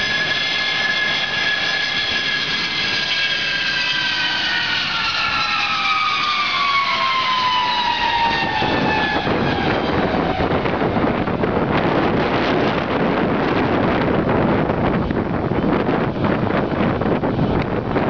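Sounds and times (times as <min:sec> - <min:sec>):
jet aircraft passing low: 0:00.0 - 0:18.0.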